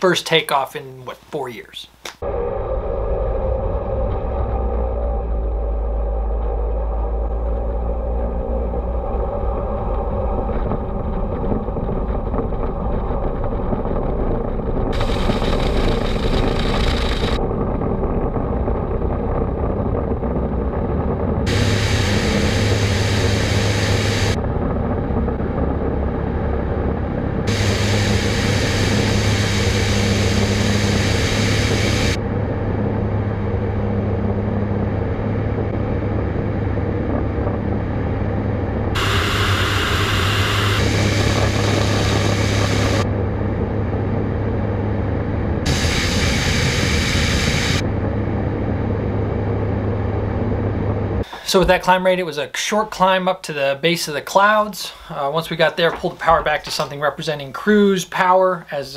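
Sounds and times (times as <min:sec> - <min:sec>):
propeller aircraft engine at full power: 0:02.2 - 0:51.5.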